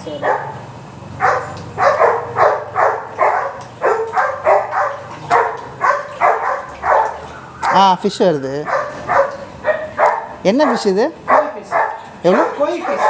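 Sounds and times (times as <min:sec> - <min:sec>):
dog barking: 0:00.1 - 0:00.6, 0:01.2 - 0:07.9, 0:08.6 - 0:13.0.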